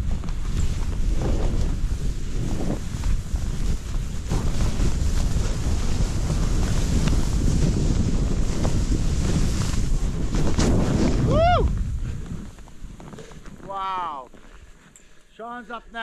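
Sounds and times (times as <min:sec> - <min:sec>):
wind buffeting microphone: 0:00.0 - 0:13.7
skis hissing through powder snow: 0:00.0 - 0:14.8.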